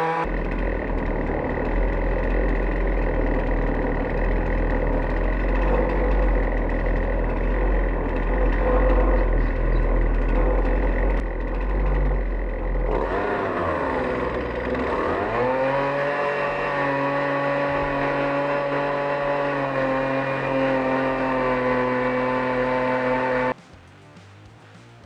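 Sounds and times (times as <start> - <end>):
chainsaw cutting a log: 0.0 - 23.6.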